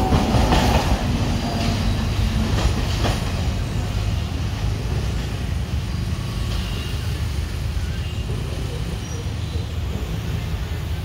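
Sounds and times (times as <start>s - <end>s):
train engine and wheels rumbling: 0.0s - 11.0s.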